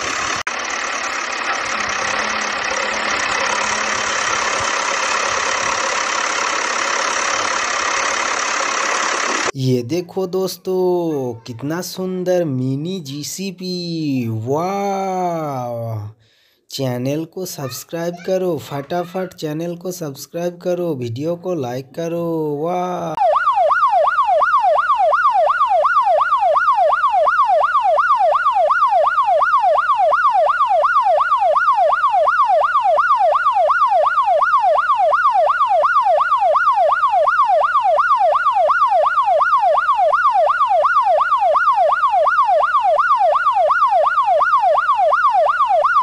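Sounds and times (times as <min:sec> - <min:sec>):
ambulance siren yelping: 0:00.0 - 0:09.6, 0:10.5 - 0:12.7, 0:13.3 - 0:16.0, 0:17.4 - 0:20.0, 0:21.5 - 0:46.0.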